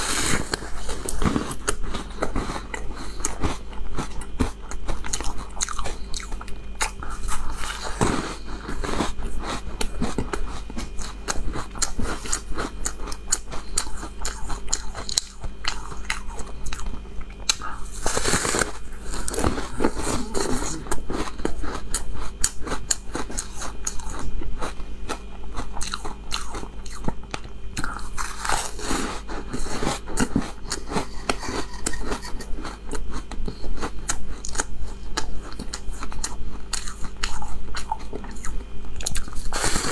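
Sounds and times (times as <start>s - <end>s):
chewing and crunching ice: 0.0s - 39.9s.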